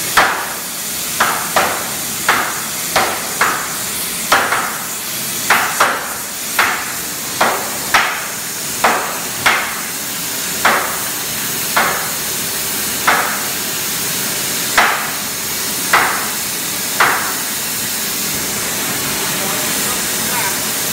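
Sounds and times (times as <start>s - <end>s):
sledgehammer striking hot metal: 0.0s - 17.6s
steady hiss: 0.0s - 20.9s.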